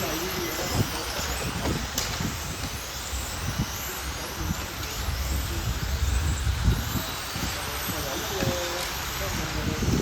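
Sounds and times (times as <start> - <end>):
remote-control cars whining: 0.0 - 10.0.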